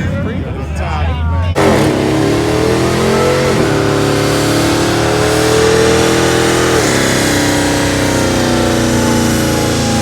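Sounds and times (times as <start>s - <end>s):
car engine at high revs: 1.6s - 10.0s.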